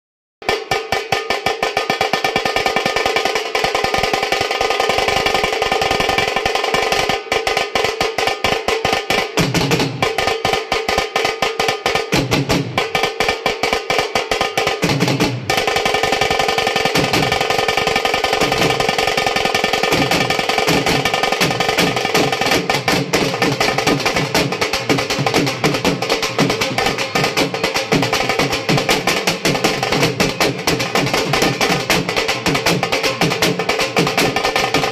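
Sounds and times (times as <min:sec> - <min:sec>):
drums struck with sticks: 0:00.4 - 0:34.9.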